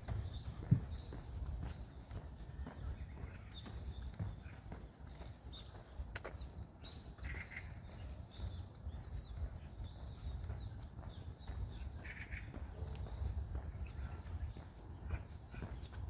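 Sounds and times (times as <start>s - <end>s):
small birds chirping: 0.0s - 16.0s
walking footsteps: 0.0s - 16.0s.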